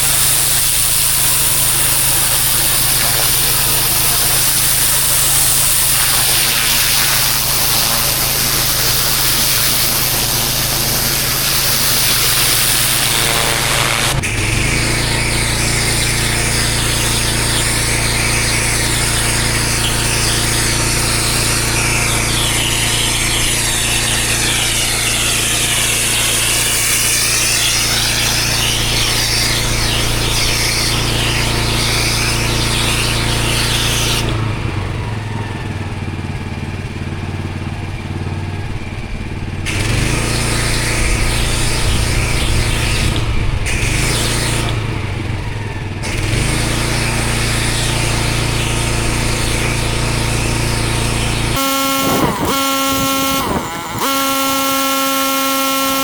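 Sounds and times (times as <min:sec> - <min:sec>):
water jet hissing on paving: 0:00.0 - 0:34.6, 0:39.7 - 0:56.0
pressure washer engine running: 0:00.0 - 0:56.0.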